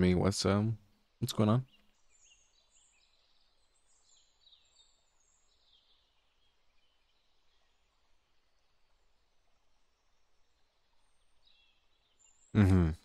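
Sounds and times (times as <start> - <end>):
faint bird chirps: 0.0 - 13.0
low hiss: 0.0 - 13.0.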